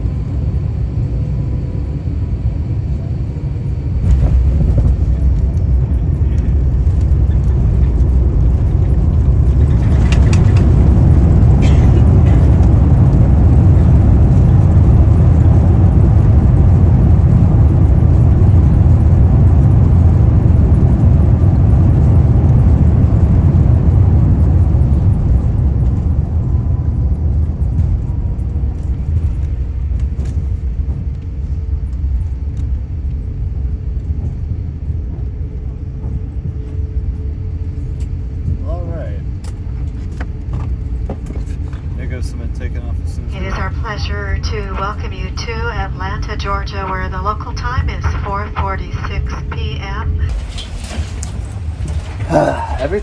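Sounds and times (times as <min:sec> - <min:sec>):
jet engines reverse thrust: 0:00.0 - 0:38.6, 0:39.2 - 0:53.0
aircraft cabin rumble: 0:00.0 - 0:53.0.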